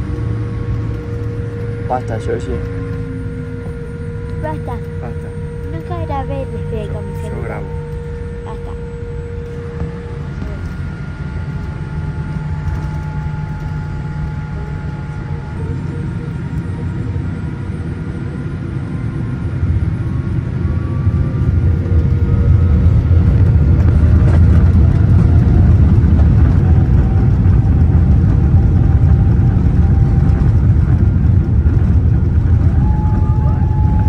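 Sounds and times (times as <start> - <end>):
airliner rolling on runway: 0.0 - 34.0
jet engines spooling up: 0.0 - 34.0.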